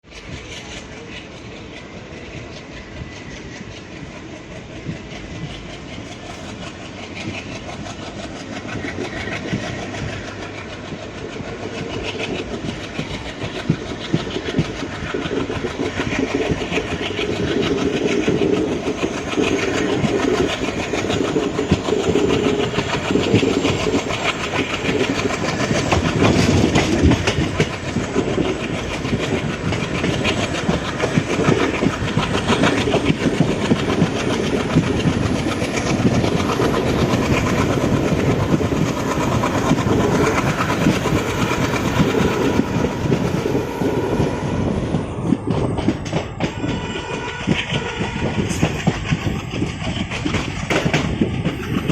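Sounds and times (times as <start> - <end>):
diesel locomotive engine running: 0.1 - 51.9.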